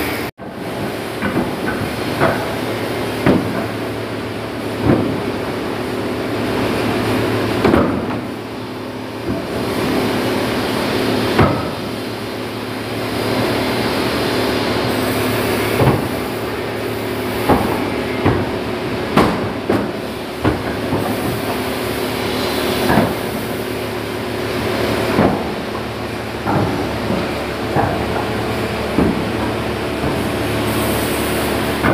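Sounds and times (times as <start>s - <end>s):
steady machine hum: 0.0s - 31.9s.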